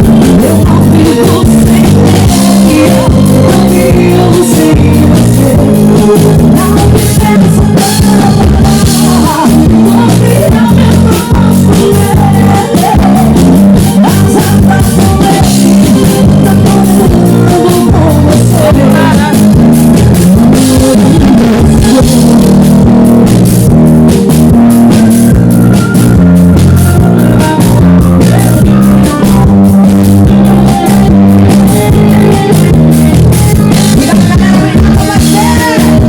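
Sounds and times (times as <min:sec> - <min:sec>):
live band playing: 0:00.0 - 0:36.0.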